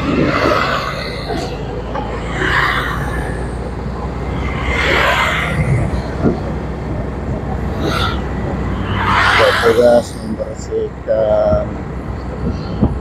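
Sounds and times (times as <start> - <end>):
traffic rumble: 0.0 - 13.0
vehicle passing: 0.0 - 13.0.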